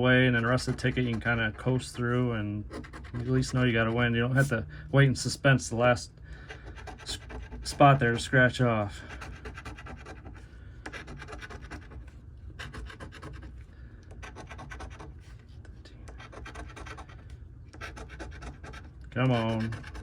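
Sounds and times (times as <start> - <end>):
scratching lottery ticket: 0.2 - 4.6, 6.4 - 20.0.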